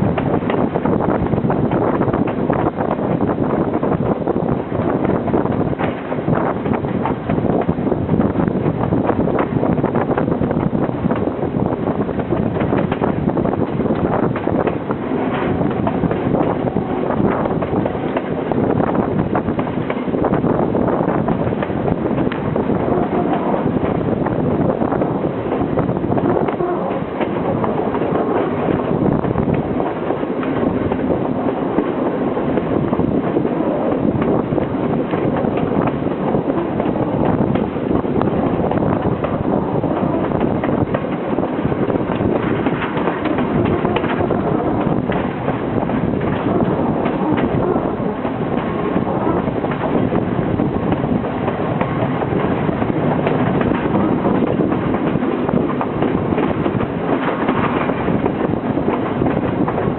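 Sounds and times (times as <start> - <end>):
train carriage rumbling: 0.0 - 59.9
wheels clicking over track: 0.0 - 59.9.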